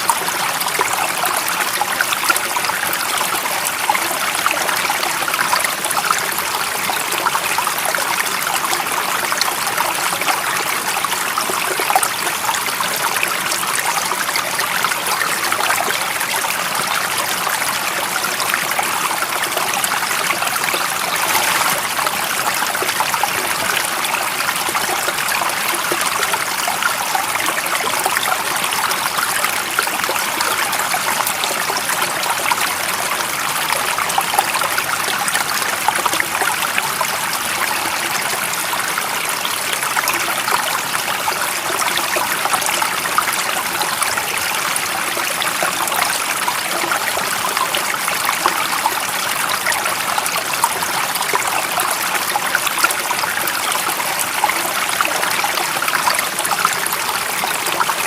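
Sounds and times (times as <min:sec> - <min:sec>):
stream of water babbling: 0:00.0 - 0:58.0.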